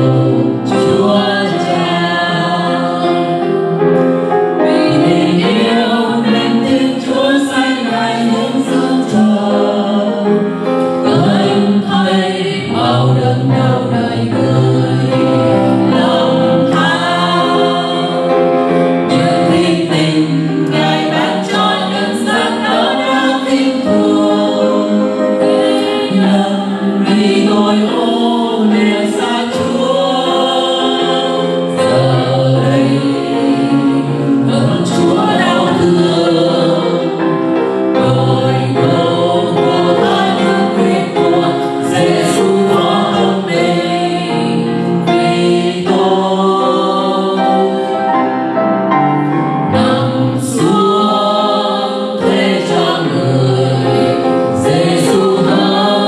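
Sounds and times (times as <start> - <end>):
people singing a hymn in harmony: 0.0 - 56.0
piano accompaniment: 0.0 - 56.0.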